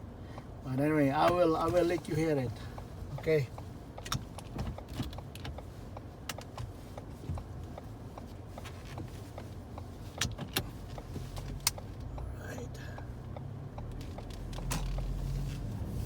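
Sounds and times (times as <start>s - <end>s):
car cabin low rumble: 0.0s - 16.0s.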